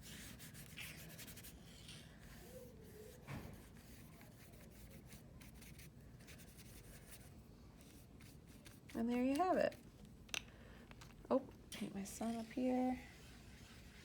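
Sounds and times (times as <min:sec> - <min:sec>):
paintbrush scratching on paper: 0:00.0 - 0:09.8, 0:12.2 - 0:14.0.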